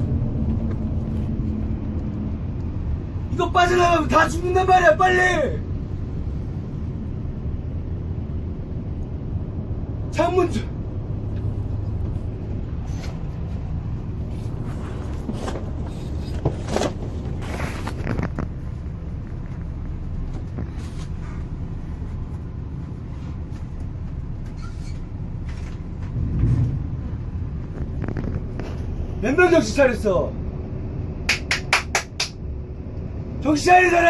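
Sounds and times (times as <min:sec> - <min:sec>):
coach engine rumble: 0:00.0 - 0:34.0
road noise: 0:00.0 - 0:34.0.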